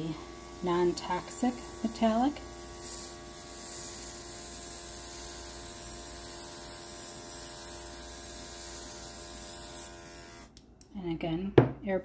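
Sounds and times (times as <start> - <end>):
airbrush hissing: 0.0 - 10.5
electric compressor humming: 0.0 - 10.8.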